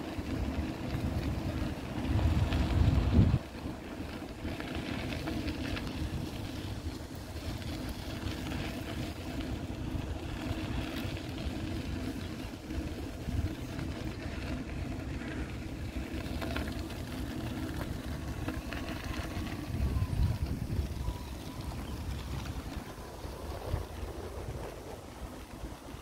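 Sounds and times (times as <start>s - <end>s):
low engine rumble: 0.0s - 26.0s
wind buffeting microphone: 0.0s - 26.0s.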